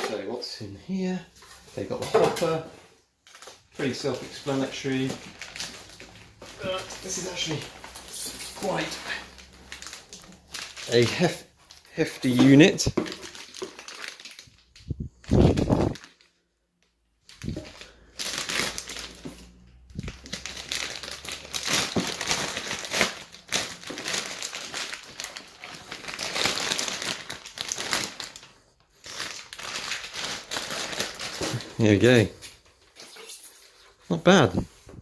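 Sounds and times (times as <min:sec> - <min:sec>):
packaging rustling and crinkling: 0:01.3 - 0:35.0.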